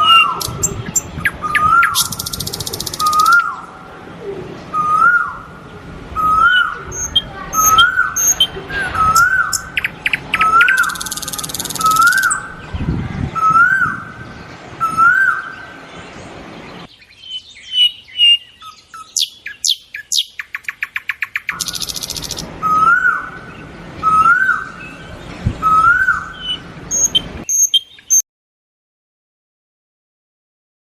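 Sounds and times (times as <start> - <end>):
birds singing and chirping: 0.0 - 28.2.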